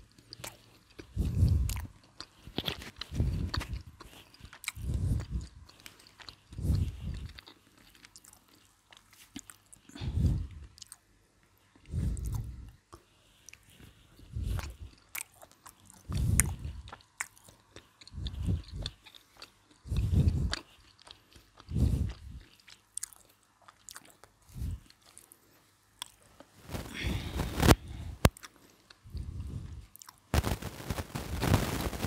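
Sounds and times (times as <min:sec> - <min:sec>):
crispy coating crackling and tearing: 0:00.0 - 0:11.1, 0:13.4 - 0:32.0
chewing crispy fried chicken: 0:00.0 - 0:32.0.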